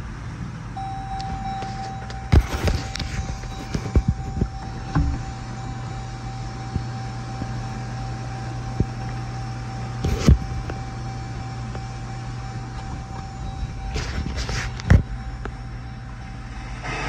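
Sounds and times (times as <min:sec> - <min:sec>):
faint whine: 0:00.0 - 0:17.0
low cabin hum: 0:00.0 - 0:17.0.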